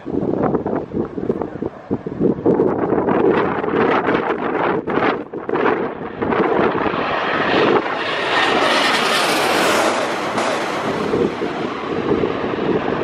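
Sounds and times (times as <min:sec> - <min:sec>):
jet airliner roaring overhead: 0:00.0 - 0:13.0.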